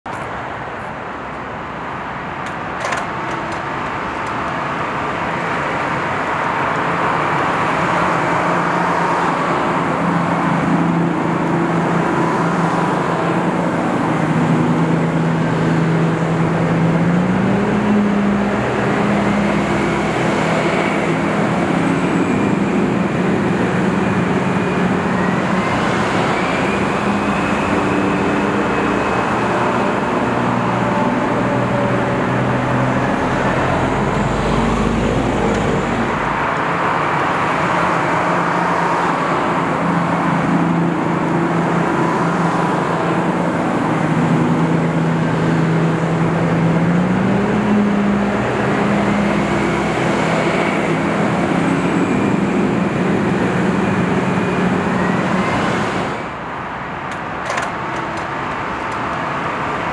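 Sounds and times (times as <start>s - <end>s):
highway traffic: 0.0s - 59.9s
bus diesel engines running: 0.1s - 59.9s.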